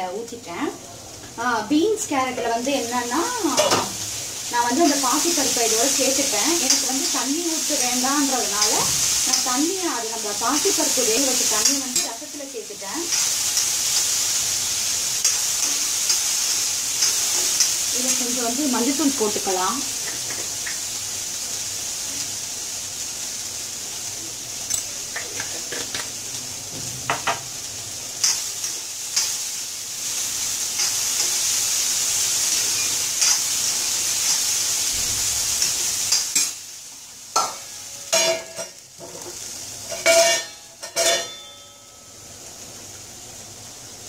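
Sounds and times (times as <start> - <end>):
stir-fry sizzling in a wok: 0.0 - 44.0.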